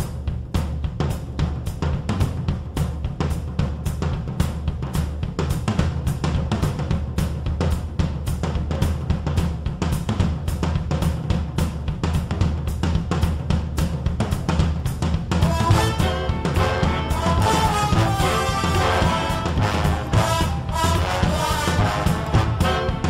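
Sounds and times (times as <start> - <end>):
rock music with fast drum beat: 0.0 - 23.0.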